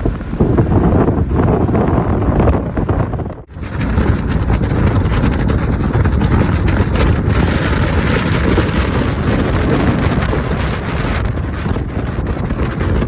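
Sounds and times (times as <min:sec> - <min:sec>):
vehicle driving rumble: 0:00.0 - 0:13.0
wind buffeting microphone: 0:00.0 - 0:13.0.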